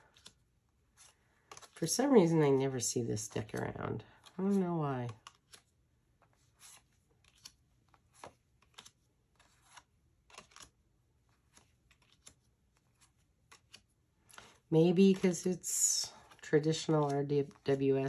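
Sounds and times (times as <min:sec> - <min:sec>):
cards being flipped: 0:00.0 - 0:02.0, 0:03.2 - 0:18.0.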